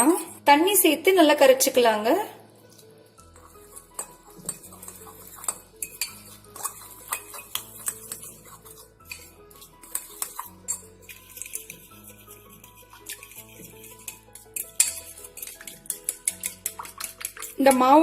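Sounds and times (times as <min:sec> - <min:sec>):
soft background music: 0:00.0 - 0:18.0
metal utensil clinking against bowl: 0:03.4 - 0:18.0.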